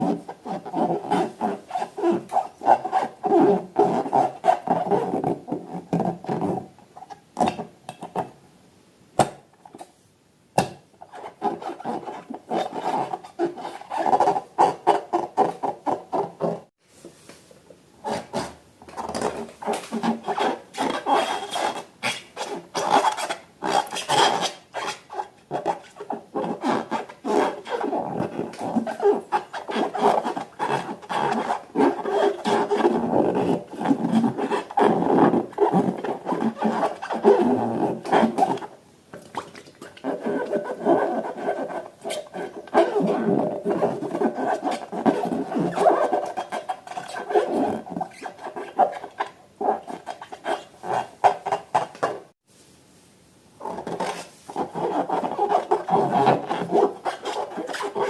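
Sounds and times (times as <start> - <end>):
rubbery balloon squeaks: 0.0 - 6.7, 11.1 - 16.7, 18.0 - 38.7, 39.8 - 52.3, 53.6 - 58.0.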